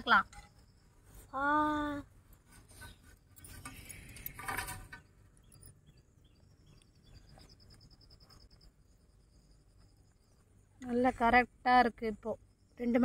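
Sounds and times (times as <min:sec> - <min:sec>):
insect chirping trill: 0:00.0 - 0:13.0.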